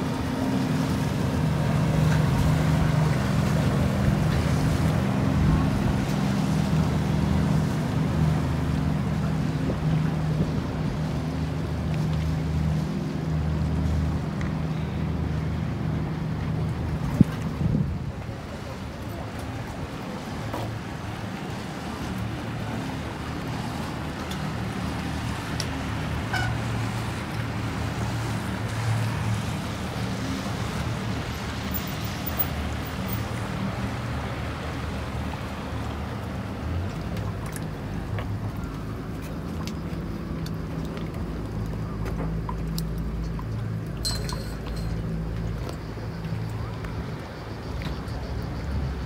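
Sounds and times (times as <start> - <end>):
motorboat engine running: 0.0 - 49.0.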